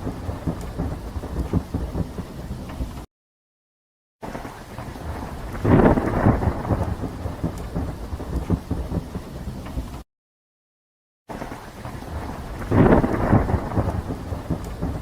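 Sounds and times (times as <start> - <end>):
steady rain: 0.0 - 3.1, 4.2 - 10.0, 11.3 - 15.0
thunder rumbling: 0.0 - 3.1, 4.2 - 10.0, 11.3 - 15.0.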